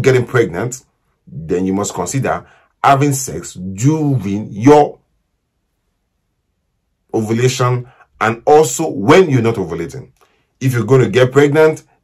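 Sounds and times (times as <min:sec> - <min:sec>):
person speaking: 0:00.0 - 0:05.0, 0:07.1 - 0:12.0.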